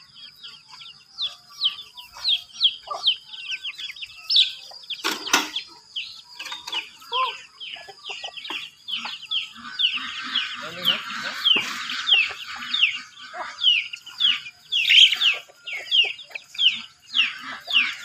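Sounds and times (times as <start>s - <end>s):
chickens clucking and peeping: 0.0s - 18.0s.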